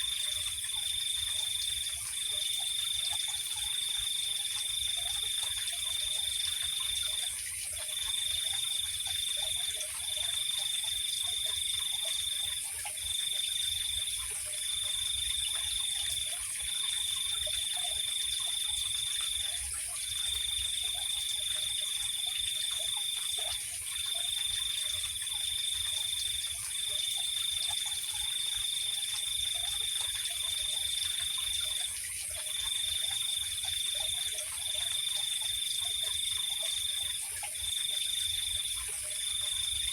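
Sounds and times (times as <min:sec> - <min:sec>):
crickets trilling: 0:00.0 - 0:39.9
faint low frog calls: 0:00.0 - 0:39.9.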